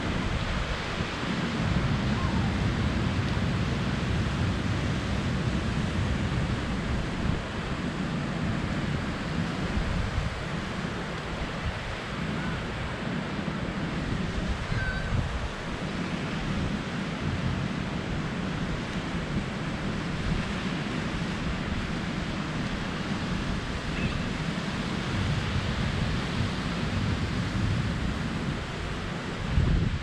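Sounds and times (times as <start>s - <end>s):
surf washing onto beach: 0.0s - 30.0s
wind gusting across microphone: 0.0s - 30.0s.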